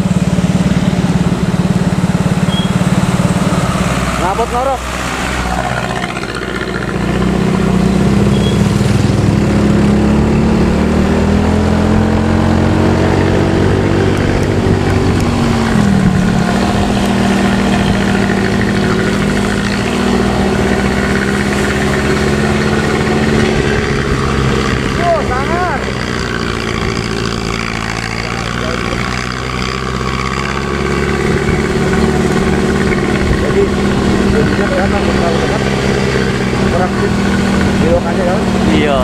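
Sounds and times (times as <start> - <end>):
bus diesel engine drone: 0.0 - 39.0.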